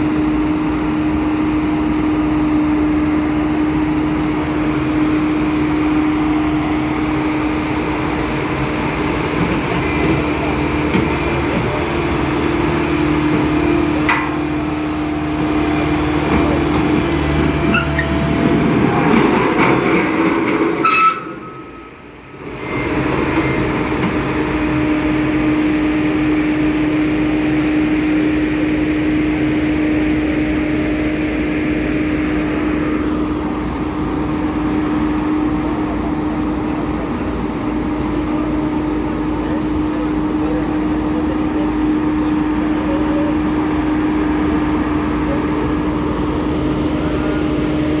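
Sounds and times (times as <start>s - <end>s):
diesel engine humming: 0.0s - 48.0s.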